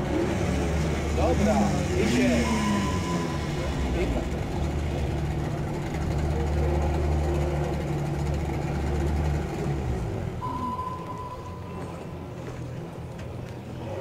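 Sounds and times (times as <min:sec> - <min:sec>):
outboard engines idling: 0:00.0 - 0:14.0.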